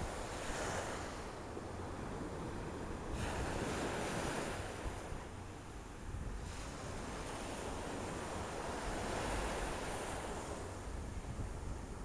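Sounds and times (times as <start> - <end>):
surf washing up beach: 0.0 - 12.0
wind on microphone: 0.0 - 12.0.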